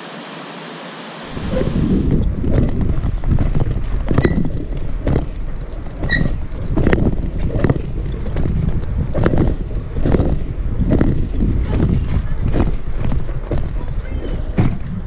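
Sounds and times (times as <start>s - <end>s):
rough rumble: 1.3s - 15.0s
wind buffeting microphone: 1.3s - 15.0s.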